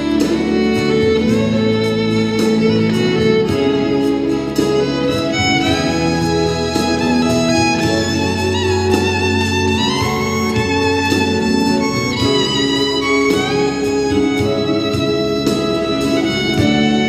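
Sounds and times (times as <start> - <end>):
band accompaniment: 0.0 - 17.0
fiddle melody with sliding notes: 0.0 - 17.0.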